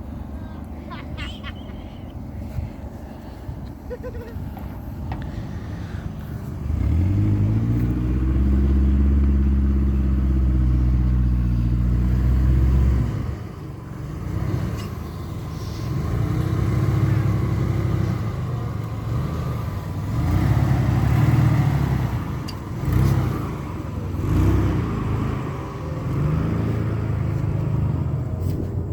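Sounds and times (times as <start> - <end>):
car engine revving: 5.3 - 28.6.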